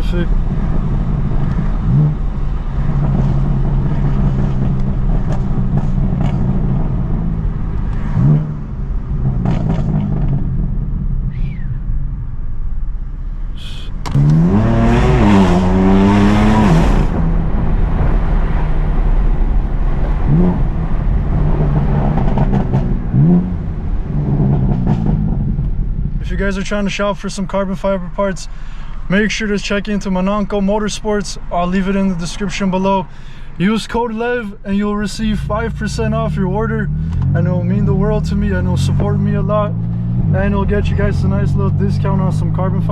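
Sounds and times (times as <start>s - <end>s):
car engine accelerating: 0.0s - 27.3s, 34.8s - 42.9s.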